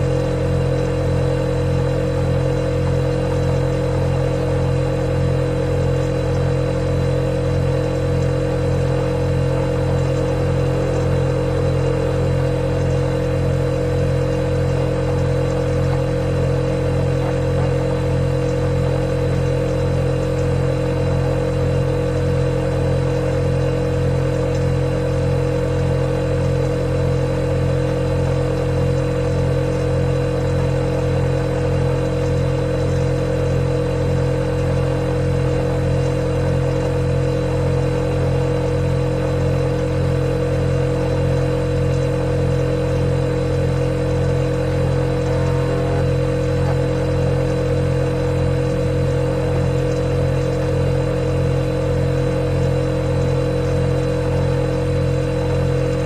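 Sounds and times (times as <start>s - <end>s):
refrigerator compressor humming: 0.0s - 56.0s.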